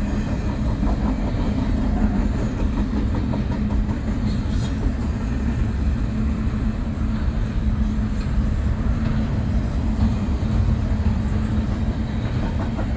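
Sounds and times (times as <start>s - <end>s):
freight train wheels rumbling on rail: 0.0s - 12.9s.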